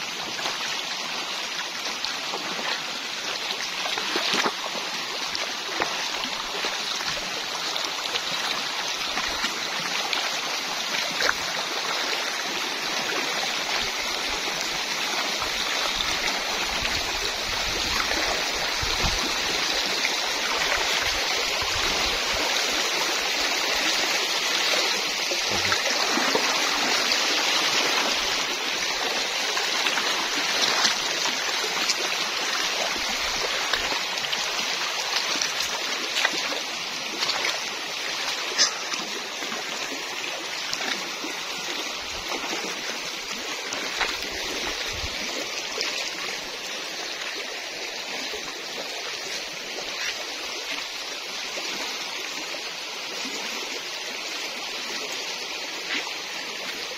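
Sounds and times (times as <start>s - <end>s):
river rushing over stones: 0.0s - 56.9s
water splashes: 0.0s - 56.9s.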